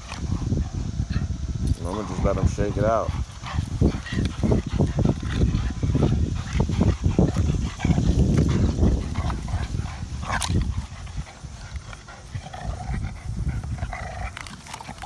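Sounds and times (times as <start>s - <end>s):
dogs breathing hard: 0.0s - 15.0s
dogs scuffling: 1.7s - 15.0s.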